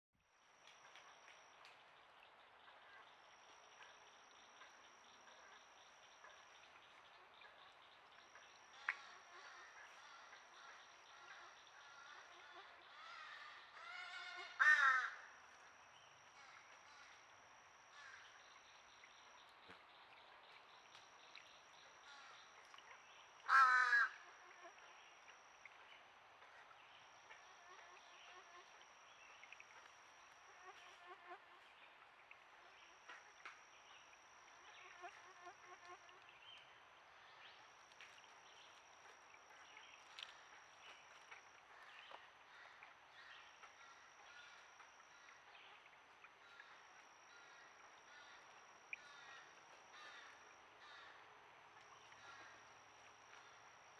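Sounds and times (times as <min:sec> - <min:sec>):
insects buzzing: 0:00.2 - 0:53.9.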